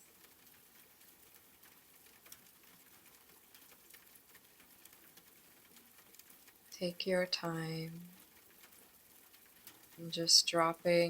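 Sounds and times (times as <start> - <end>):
light raindrop ticks: 0.0 - 11.0
rain hiss: 0.0 - 11.0.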